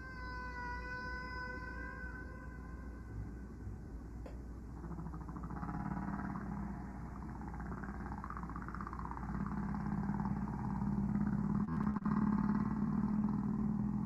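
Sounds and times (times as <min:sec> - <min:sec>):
whale wavering cries: 0:00.0 - 0:04.2, 0:04.8 - 0:14.0
whale moaning tones: 0:00.0 - 0:14.0.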